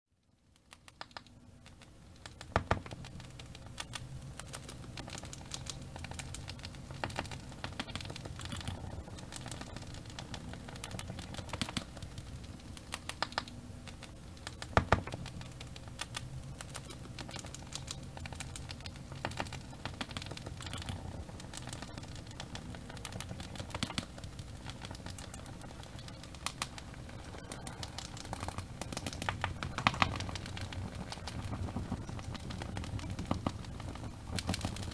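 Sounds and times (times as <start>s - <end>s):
wood fire crackling and popping: 0.4s - 34.9s
low rumble of burning: 1.4s - 34.9s.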